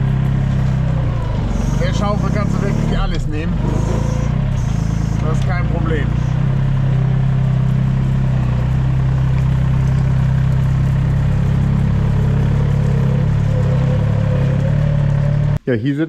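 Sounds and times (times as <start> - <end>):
diesel engine droning: 0.0 - 15.6.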